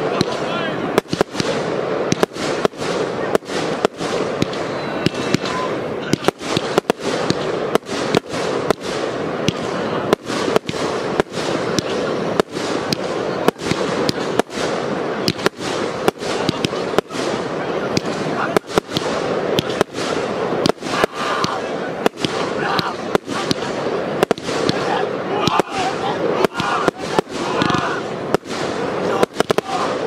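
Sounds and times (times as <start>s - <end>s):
fireworks bangs: 0.0s - 30.0s
fireworks crackle: 0.0s - 30.0s.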